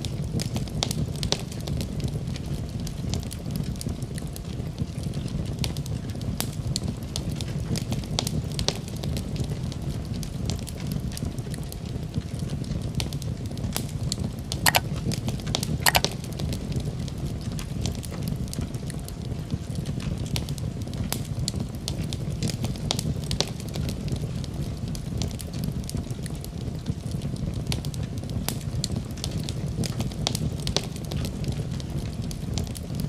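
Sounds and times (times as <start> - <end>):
fire crackling: 0.0 - 33.0
low rumble of flames: 0.0 - 33.0.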